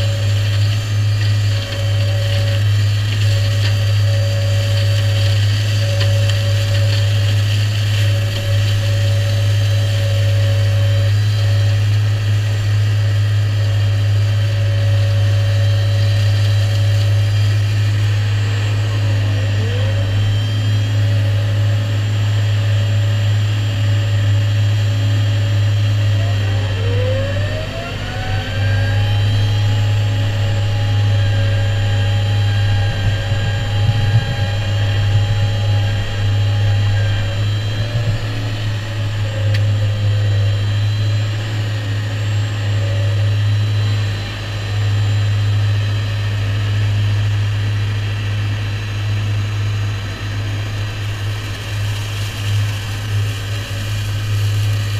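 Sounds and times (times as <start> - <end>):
tractor running: 0.0 - 54.9
whine: 0.0 - 54.9.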